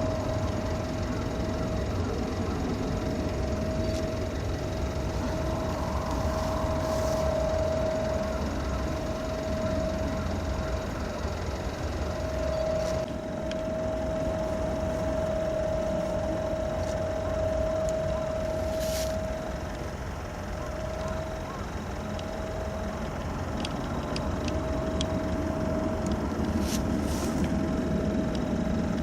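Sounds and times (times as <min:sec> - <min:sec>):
machine drone with whine: 0:00.0 - 0:29.0.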